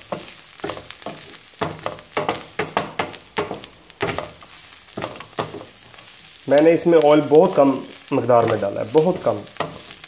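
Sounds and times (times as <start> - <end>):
wooden spatula scraping a pan: 0.0 - 6.3, 7.0 - 10.0
vegetables sizzling in a frying pan: 0.0 - 10.0.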